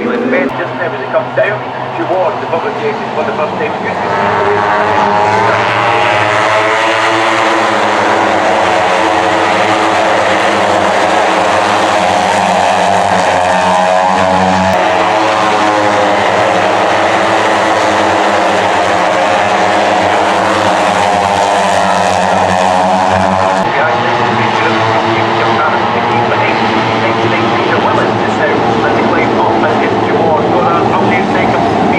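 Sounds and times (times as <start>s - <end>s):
racing motorcycle engines revving: 0.0s - 31.9s.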